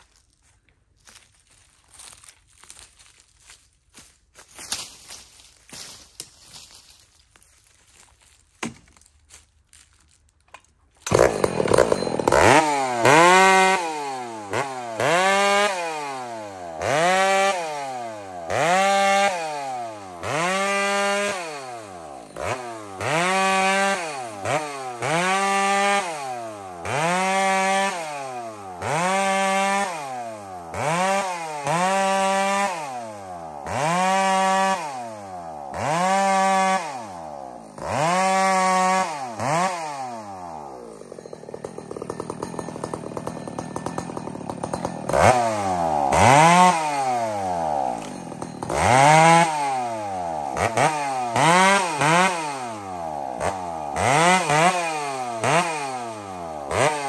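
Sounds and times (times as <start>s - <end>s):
chainsaw revving and cutting log: 11.0s - 57.0s.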